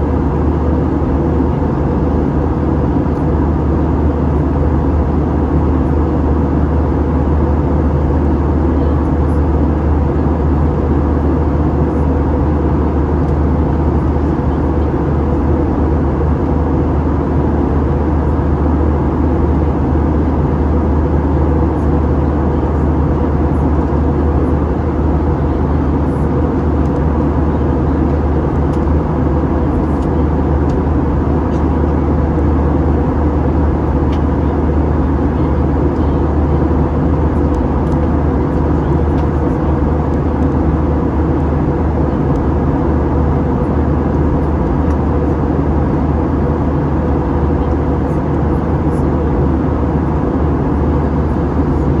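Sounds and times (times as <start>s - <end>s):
airplane cabin engine roar: 0.0s - 52.0s.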